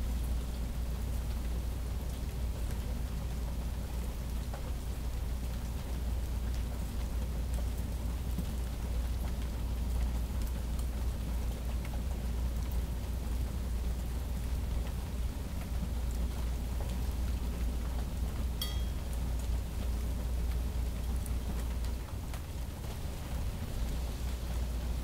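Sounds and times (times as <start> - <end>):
rain hiss with drop ticks: 0.0 - 25.0.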